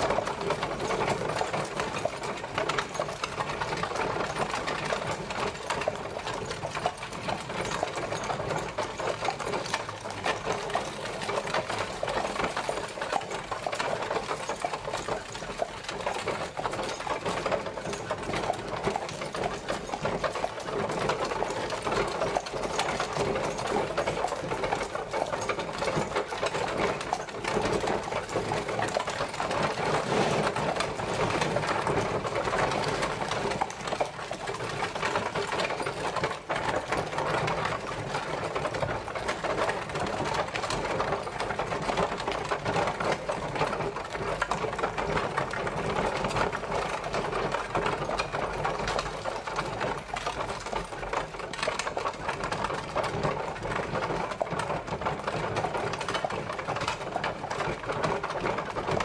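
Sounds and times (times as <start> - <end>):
horse-drawn carriage rattling: 0.0 - 59.0.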